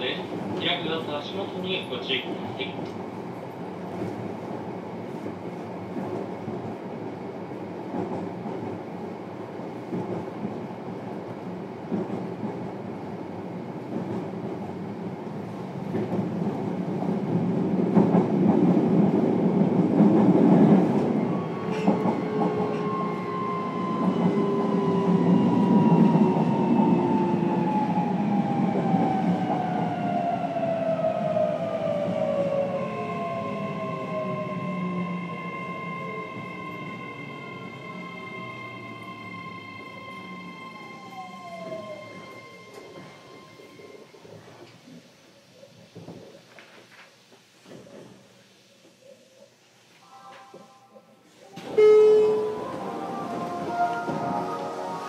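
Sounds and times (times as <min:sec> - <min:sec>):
train wheel and track rumble: 0:00.0 - 0:55.0.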